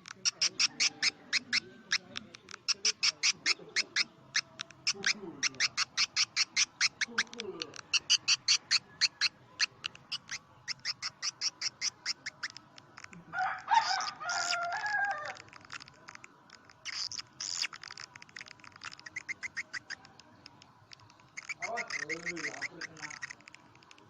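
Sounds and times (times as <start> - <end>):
harsh bird squawking call: 0.2 - 13.1, 13.7 - 20.1, 21.0 - 24.0.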